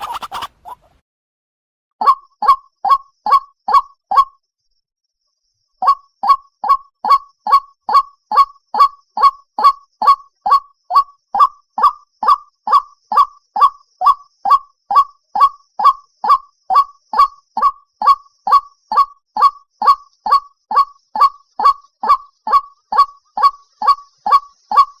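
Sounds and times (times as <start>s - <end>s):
waterhen kwak calls: 0.0s - 1.0s, 5.8s - 25.0s.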